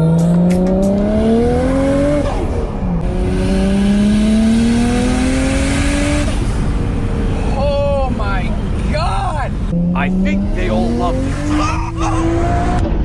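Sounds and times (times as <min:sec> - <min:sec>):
car engine accelerating hard: 0:00.0 - 0:07.9, 0:09.5 - 0:13.0.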